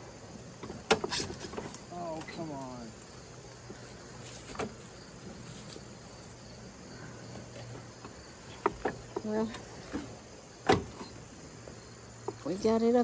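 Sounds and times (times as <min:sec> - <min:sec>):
lawn tractor engine humming: 0:00.0 - 0:13.0.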